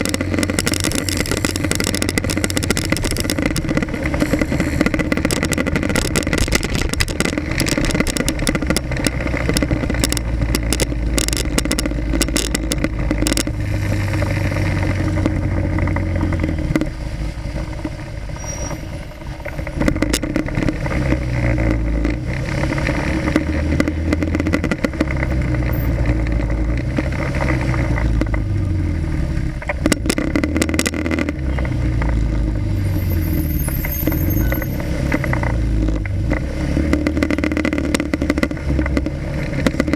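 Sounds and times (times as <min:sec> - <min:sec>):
crackling wind rush: 0:00.0 - 0:39.9
motorcycle engine running: 0:00.0 - 0:39.9.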